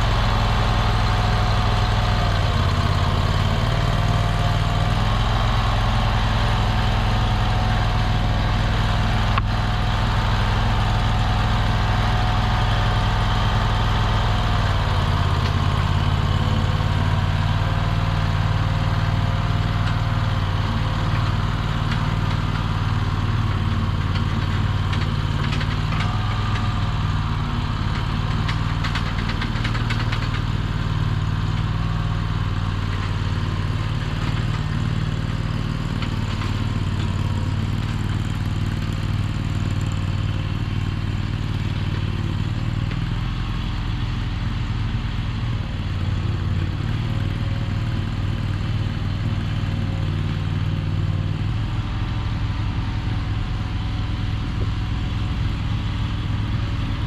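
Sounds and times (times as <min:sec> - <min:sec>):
small engine running steadily: 0:00.0 - 0:57.0.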